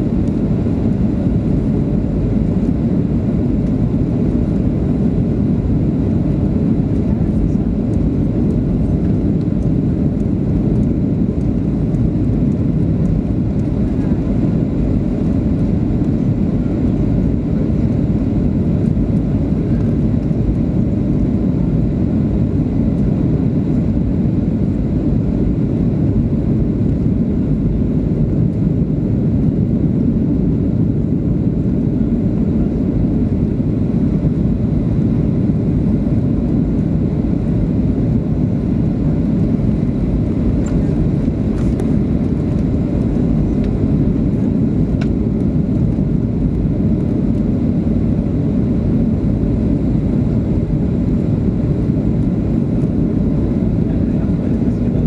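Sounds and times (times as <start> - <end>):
jet engine hum: 0.0 - 55.0.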